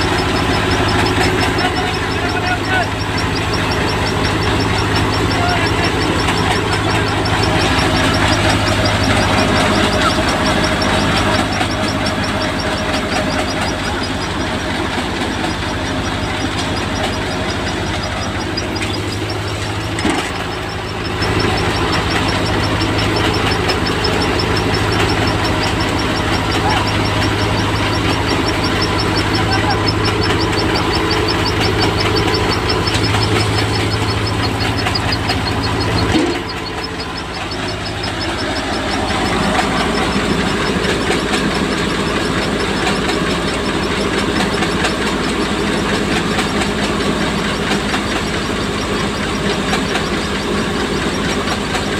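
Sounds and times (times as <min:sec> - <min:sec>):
fast rattling ticking: 0:00.0 - 0:51.9
harvesting machine engine hum: 0:00.0 - 0:51.9.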